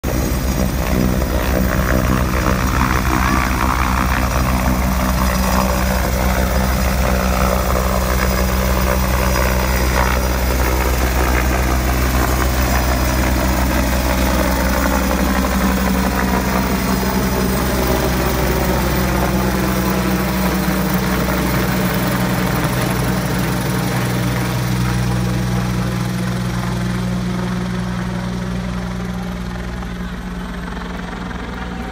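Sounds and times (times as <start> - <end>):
helicopter taking off: 0.0 - 31.9.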